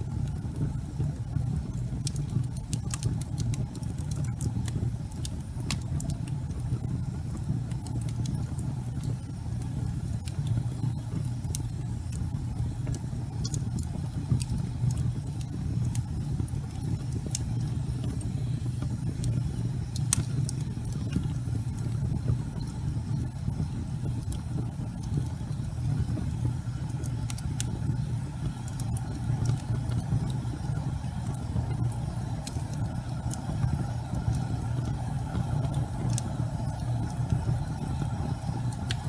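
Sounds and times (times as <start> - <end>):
logs crackling in a fireplace: 0.0 - 39.0.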